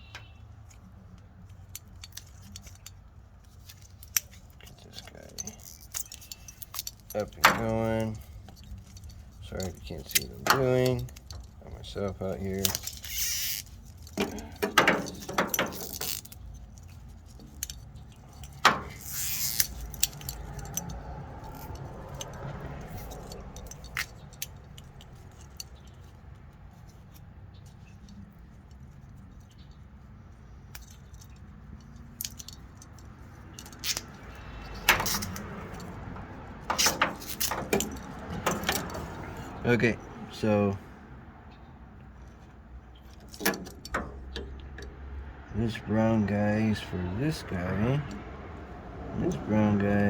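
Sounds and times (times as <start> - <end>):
wires and small tools handled: 0.0 - 40.8, 42.0 - 45.0.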